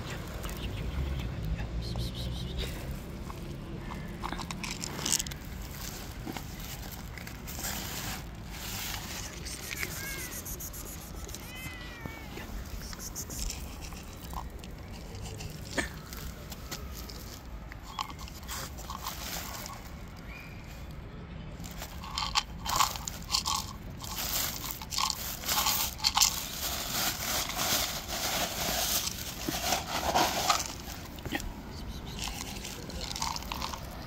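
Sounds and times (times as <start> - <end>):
cat crunching dry kibble: 2.7 - 11.8, 12.6 - 20.2, 21.6 - 34.0.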